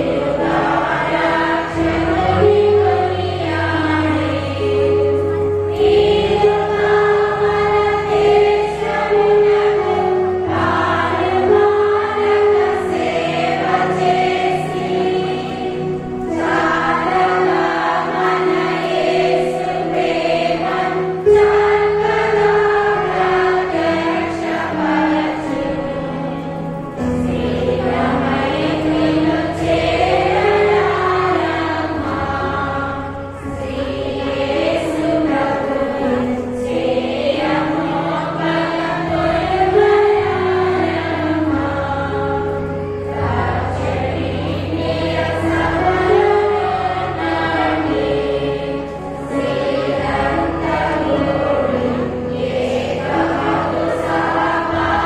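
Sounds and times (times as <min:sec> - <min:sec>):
electronic keyboard melody: 0:00.0 - 0:55.0
women's choir singing hymn: 0:00.0 - 0:55.0.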